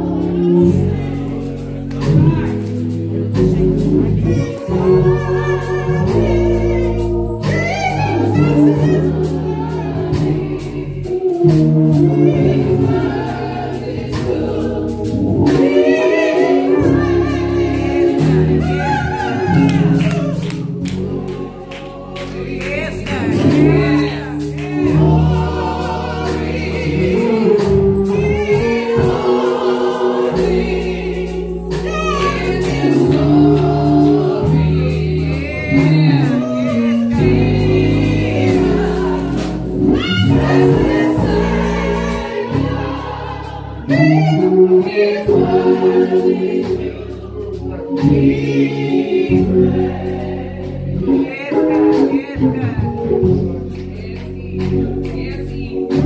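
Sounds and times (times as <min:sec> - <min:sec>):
group gospel singing: 0:00.0 - 0:56.0.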